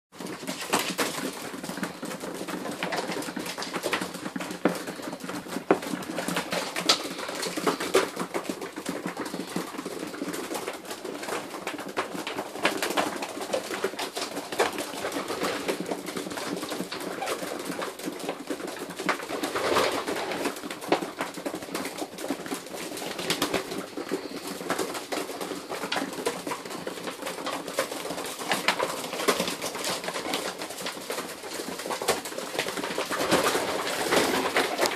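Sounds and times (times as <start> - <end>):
birds pecking and tapping: 0.1 - 34.9
pigeons cooing: 0.4 - 34.9.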